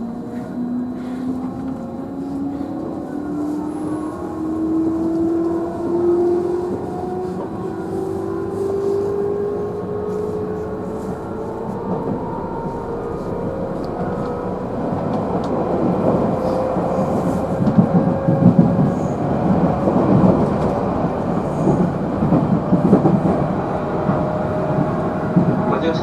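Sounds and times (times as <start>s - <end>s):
electric train motor whine: 0.0s - 25.9s
wheels rumbling on rail: 0.0s - 26.0s.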